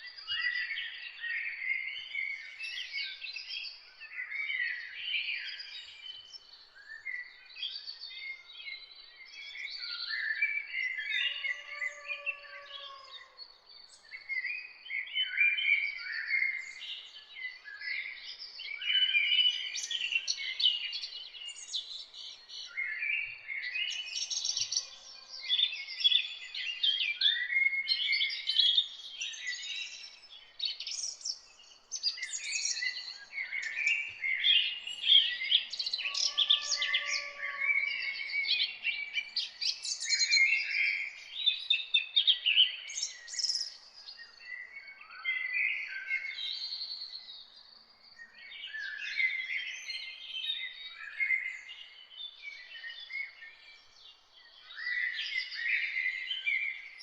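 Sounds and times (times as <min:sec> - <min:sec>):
songbirds singing and chirping: 0:00.0 - 0:57.0.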